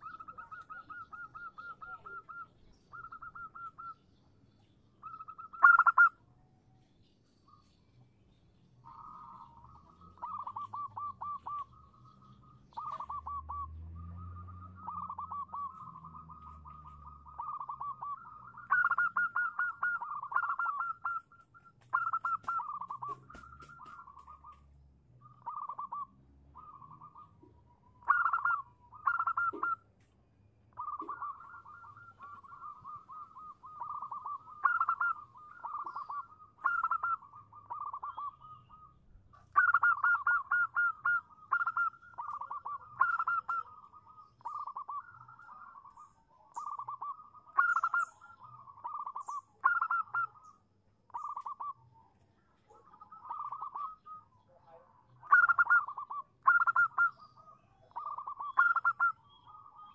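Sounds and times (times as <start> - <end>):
dove cooing: 0.0 - 6.2, 8.8 - 29.9, 30.7 - 59.9.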